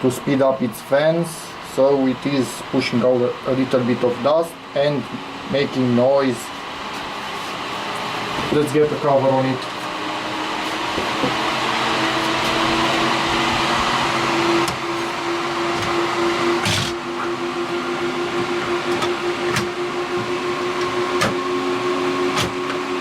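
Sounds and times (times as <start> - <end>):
computer cooling fans whirring: 0.0 - 23.0.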